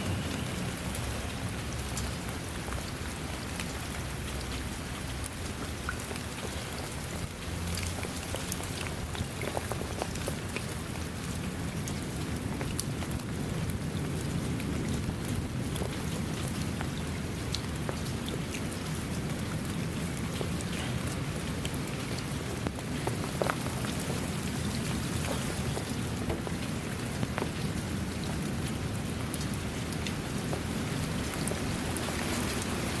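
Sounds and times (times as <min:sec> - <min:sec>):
raindrops pattering close by: 0:00.0 - 0:33.0
steady rain falling: 0:00.0 - 0:33.0.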